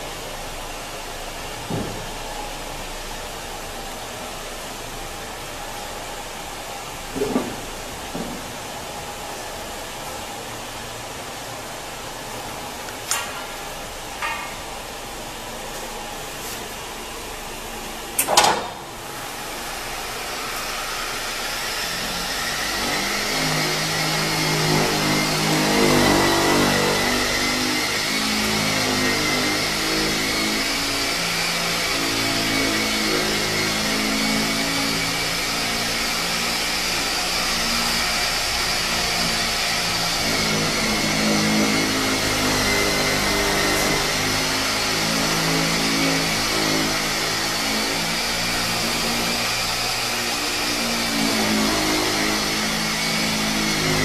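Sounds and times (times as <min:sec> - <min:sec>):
hydraulic pump motor whine: 0:00.0 - 0:54.0.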